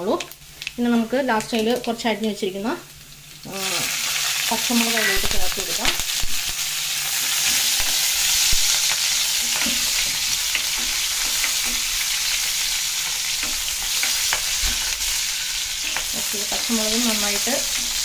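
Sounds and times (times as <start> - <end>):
chillies sizzling in hot oil: 0.0 - 18.0.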